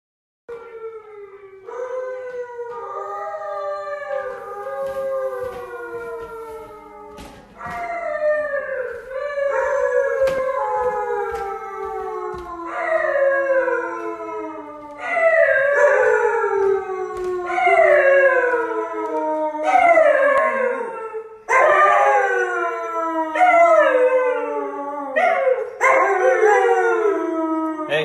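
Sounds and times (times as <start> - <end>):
dog howling: 0.5 - 28.0.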